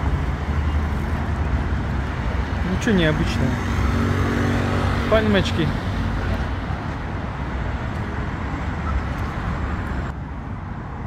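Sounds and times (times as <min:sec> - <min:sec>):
passing cars in street traffic: 0:00.0 - 0:11.0.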